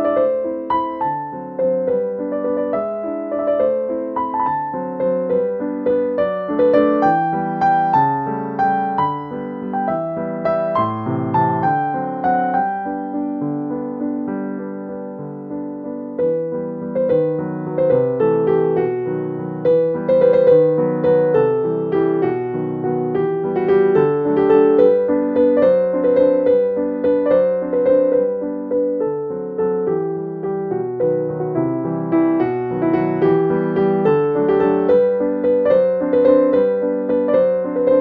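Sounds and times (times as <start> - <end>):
gentle piano tune: 0.0 - 38.0.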